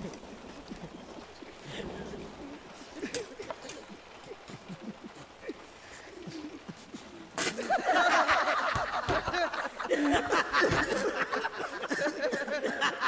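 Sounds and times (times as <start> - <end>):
group of men laughing: 0.0 - 13.0.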